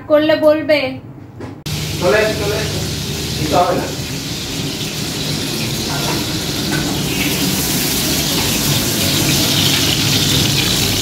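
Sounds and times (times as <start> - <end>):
vegetables sizzling in oil: 1.7 - 11.0.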